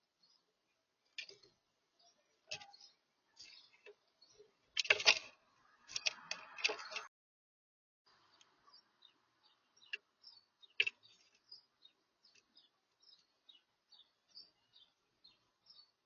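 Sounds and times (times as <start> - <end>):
birds pecking on a feeder: 0.0 - 7.1, 8.1 - 16.0.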